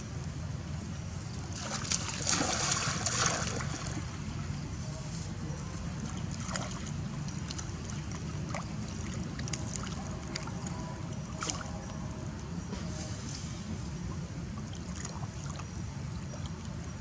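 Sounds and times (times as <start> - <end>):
water splashes: 1.2 - 17.0.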